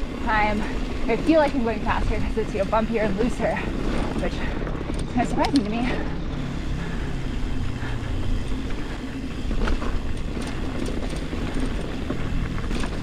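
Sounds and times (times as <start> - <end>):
bike chain and frame rattling: 0.0 - 13.0
bike tyres rumbling on dirt: 0.0 - 13.0.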